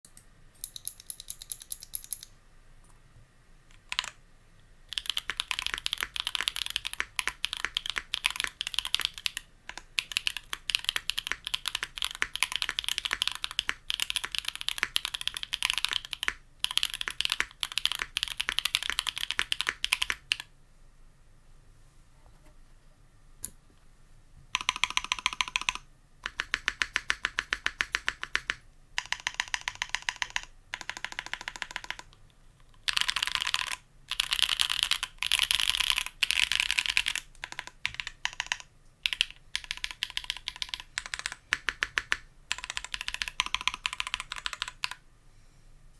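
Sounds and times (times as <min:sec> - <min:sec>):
mechanical keyboard typing: 0:00.0 - 0:02.3, 0:03.7 - 0:04.2, 0:04.9 - 0:20.5, 0:24.6 - 0:45.0.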